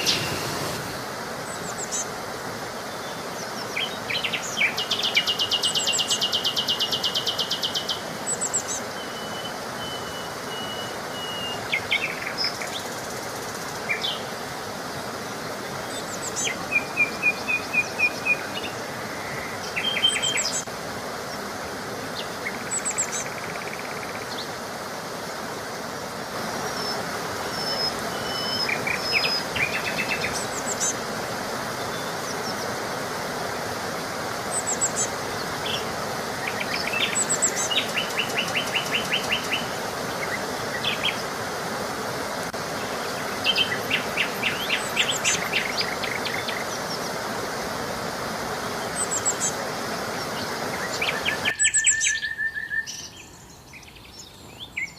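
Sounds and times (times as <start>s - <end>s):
songbirds chirping and trilling: 0.0s - 24.9s, 25.5s - 54.9s
steady background hiss: 0.0s - 54.9s.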